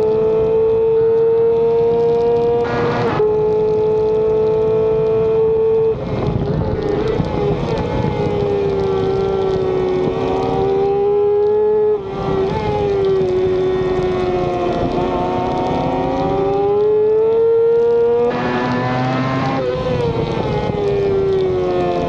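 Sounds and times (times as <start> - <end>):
racing motorcycle engine: 0.0 - 22.0
wind noise: 0.0 - 22.0.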